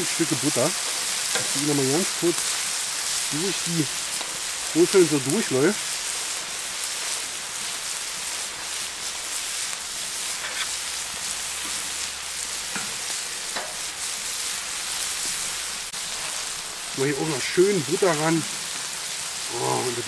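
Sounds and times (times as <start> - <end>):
faint crackles: 0.0 - 20.0
scallops sizzling on griddle: 0.0 - 20.0.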